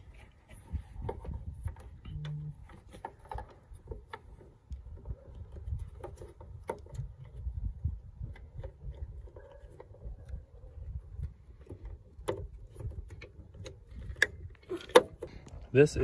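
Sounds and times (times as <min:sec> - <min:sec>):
plastic parts clicking and knocking: 0:01.0 - 0:15.6.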